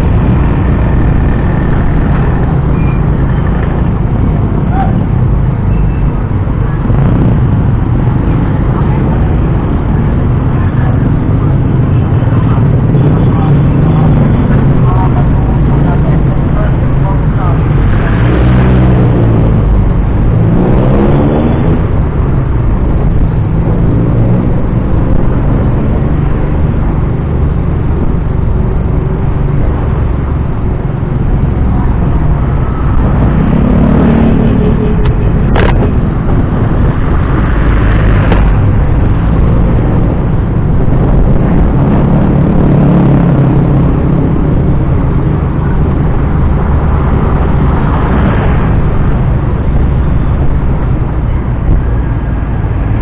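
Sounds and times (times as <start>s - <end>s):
motorcycle engine accelerating: 0.0s - 52.0s
wind noise on microphone: 0.0s - 53.0s.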